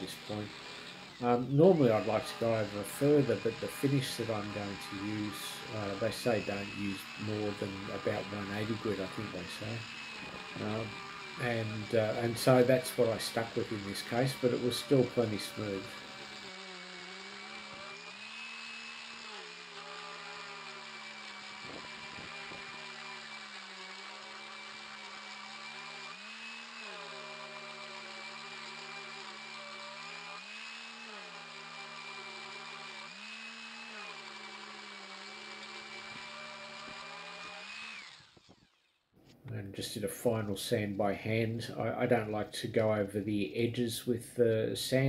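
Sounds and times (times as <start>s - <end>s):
orbital sander running: 0.0s - 39.1s.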